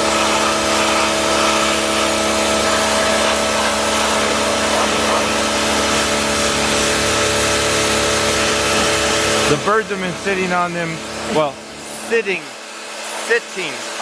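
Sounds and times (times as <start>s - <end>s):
pump motor humming: 0.0s - 14.0s
water jet spraying: 0.0s - 14.0s.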